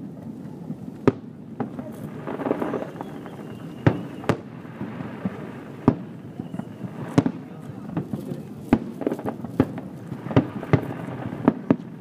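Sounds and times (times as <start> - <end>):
murmur of crowd voices: 0.0 - 12.0
firework shells bursting: 1.0 - 12.0.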